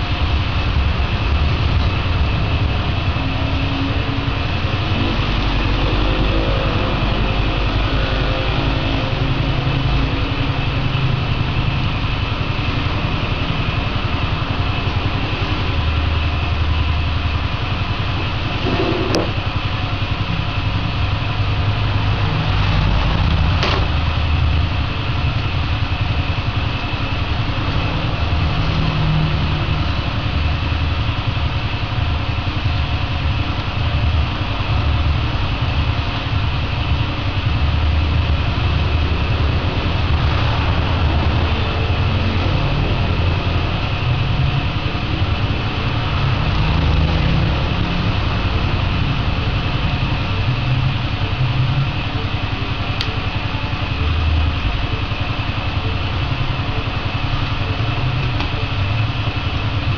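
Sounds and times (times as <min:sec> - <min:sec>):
steady mechanical drone: 0:00.0 - 0:59.9.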